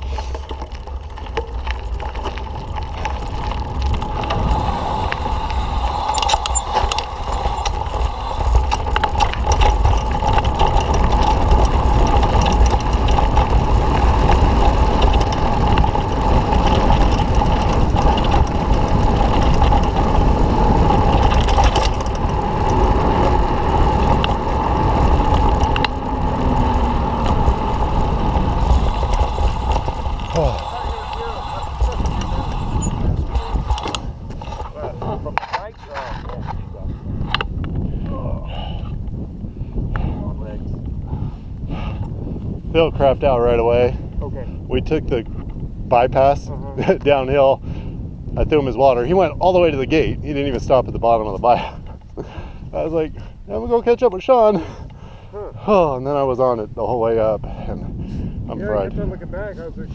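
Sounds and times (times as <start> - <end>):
bike clicks and rattles: 0.0 - 58.4
bike tyres and drivetrain: 0.0 - 59.9
wind rumble on microphone: 0.0 - 59.9.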